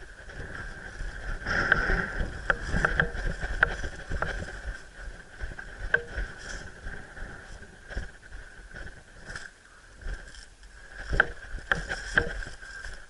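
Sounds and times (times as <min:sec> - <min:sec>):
low rumble: 0:00.0 - 0:11.7.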